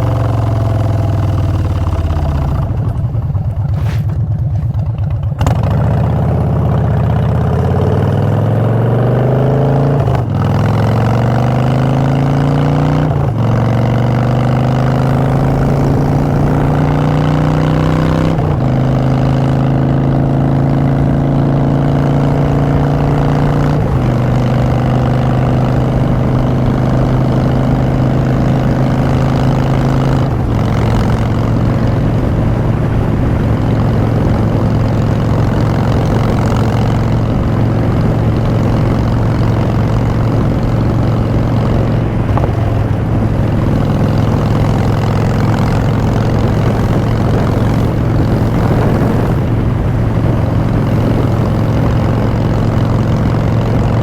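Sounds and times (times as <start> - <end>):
motorcycle engine exhaust: 0.0 - 54.0.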